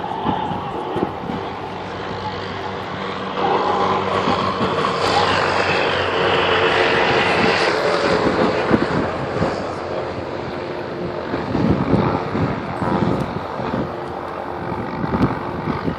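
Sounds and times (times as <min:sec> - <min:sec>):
helicopter engine and rotor noise: 0:00.0 - 0:15.9.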